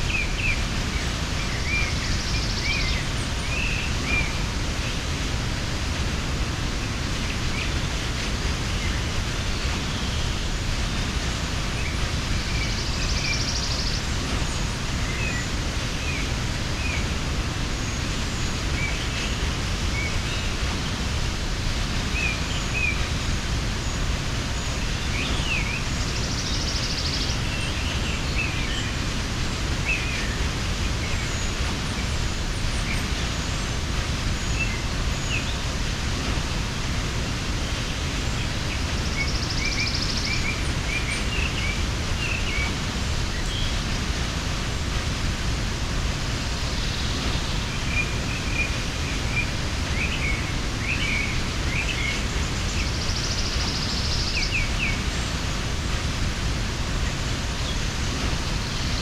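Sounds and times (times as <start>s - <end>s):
small birds chirping: 0.0s - 59.0s
waterfall rushing: 0.0s - 59.0s.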